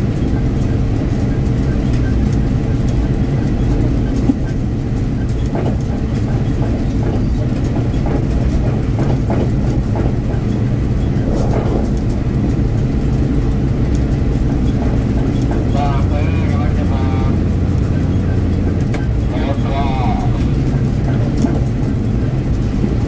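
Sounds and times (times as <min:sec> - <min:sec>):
diesel train rumbling on track: 0:00.0 - 0:23.0.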